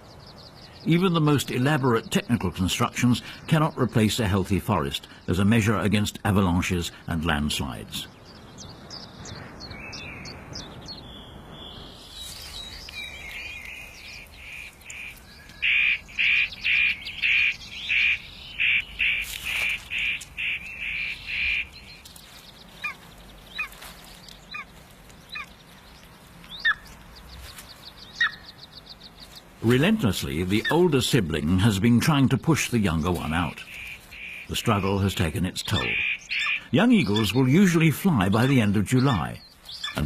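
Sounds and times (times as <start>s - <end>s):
bird calling: 0.0s - 40.0s.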